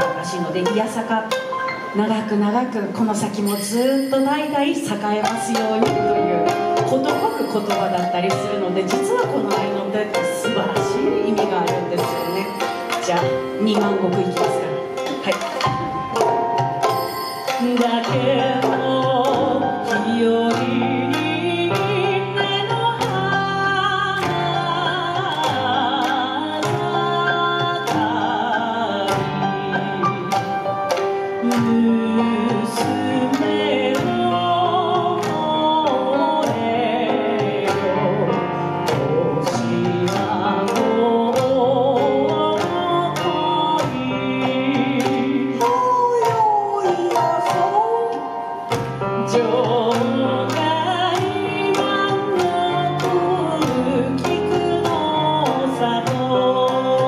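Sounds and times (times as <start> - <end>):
instrumental accompaniment with beat: 0.0 - 57.0
woman singing with vibrato: 0.0 - 57.0.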